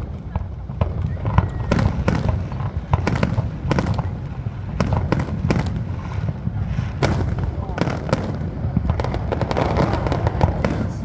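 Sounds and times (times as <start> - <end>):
low rumble of booms: 0.0 - 11.0
firework shells bursting: 0.7 - 11.0.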